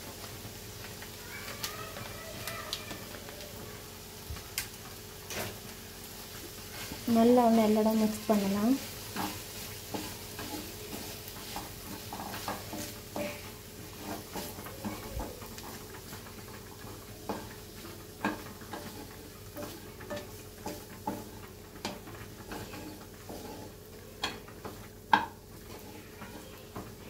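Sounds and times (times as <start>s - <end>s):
sizzle from hot pan: 0.0s - 27.0s
wooden spatula scraping pan: 5.3s - 27.0s.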